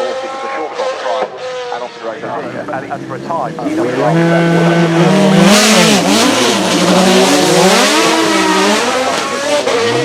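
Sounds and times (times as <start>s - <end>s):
racing car engine revving: 0.0s - 10.0s.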